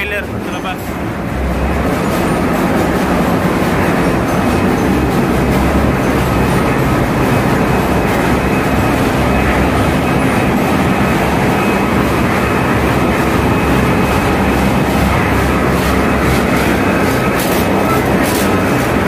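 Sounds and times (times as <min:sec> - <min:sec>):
engine-room machinery roar: 0:00.0 - 0:19.0.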